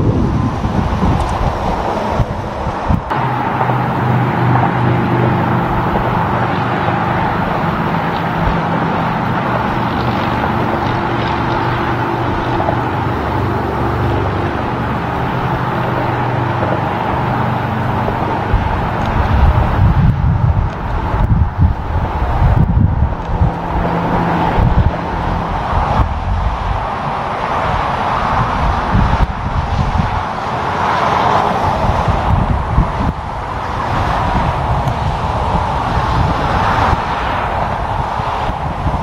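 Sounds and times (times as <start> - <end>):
truck diesel engine humming: 0.0 - 39.0
tyre and road noise: 0.0 - 39.0.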